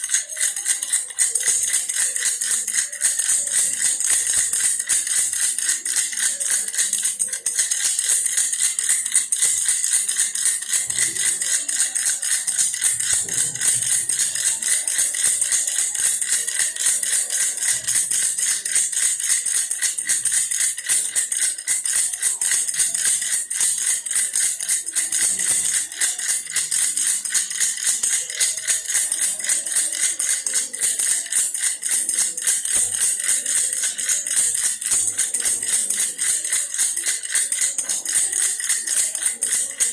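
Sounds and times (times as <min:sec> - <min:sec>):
toy rattle shaken: 0:00.0 - 0:39.9.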